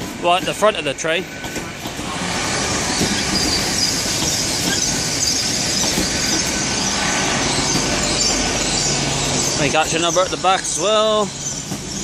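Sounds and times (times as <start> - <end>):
train wheel and rail noise: 0.0 - 12.0
high wheel squeal: 0.3 - 12.0.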